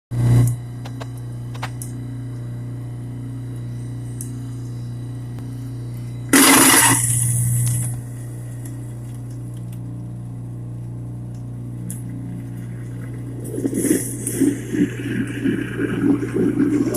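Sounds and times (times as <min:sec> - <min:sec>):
garbage disposal humming: 0:00.2 - 0:16.9.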